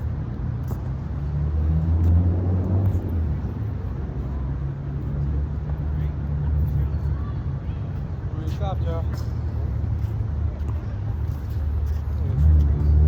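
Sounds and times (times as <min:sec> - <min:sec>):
motor vehicle engine rumble: 0:00.0 - 0:13.0.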